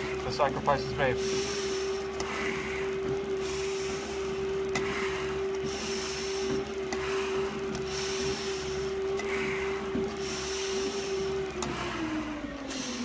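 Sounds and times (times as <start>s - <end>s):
steady machine hum: 0.0s - 13.0s
heavy breathing through face mask: 1.2s - 13.0s.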